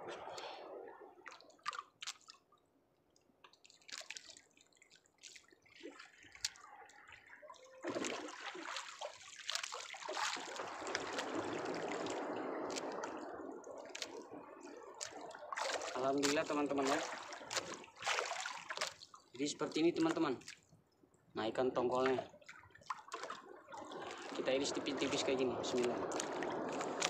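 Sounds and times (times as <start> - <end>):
water sloshing and splashing: 0.0 - 27.0.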